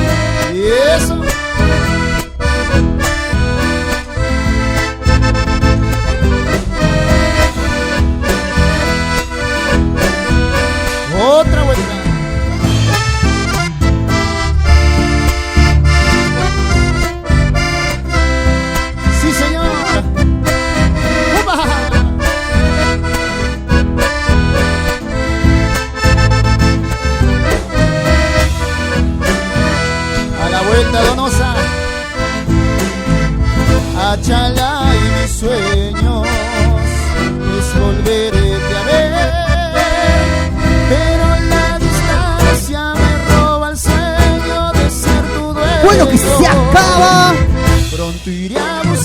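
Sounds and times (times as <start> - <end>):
accordion melody: 0.0 - 49.0
bass and percussion beat: 0.0 - 49.0.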